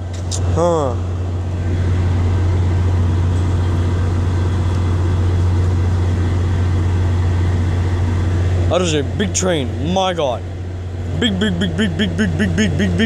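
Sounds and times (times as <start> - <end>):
diesel locomotive engine idling: 0.0 - 13.0.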